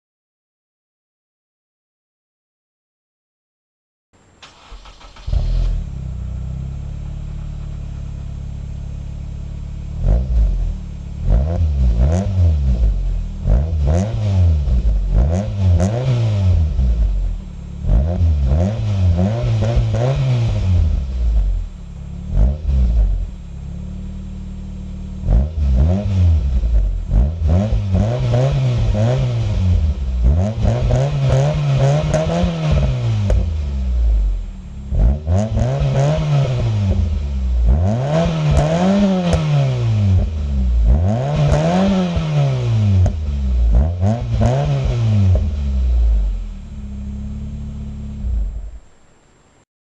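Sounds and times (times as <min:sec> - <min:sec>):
car engine starting and revving: 0:04.4 - 0:49.0.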